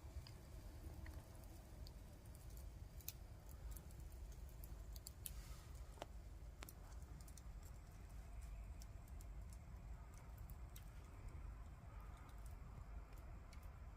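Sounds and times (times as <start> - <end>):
campfire crackling and popping: 0.0 - 13.9
low fire rumble: 0.0 - 13.9.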